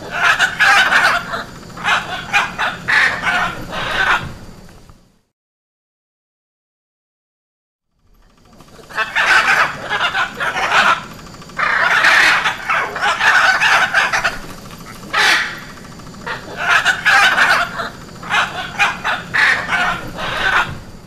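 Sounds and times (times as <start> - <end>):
macaws calling harshly: 0.0 - 4.5, 8.3 - 21.0.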